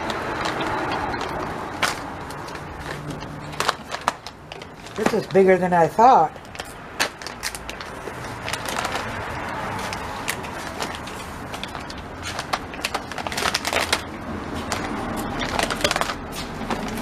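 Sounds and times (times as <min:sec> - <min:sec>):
plastic mailer bag crinkling: 0:00.0 - 0:17.0.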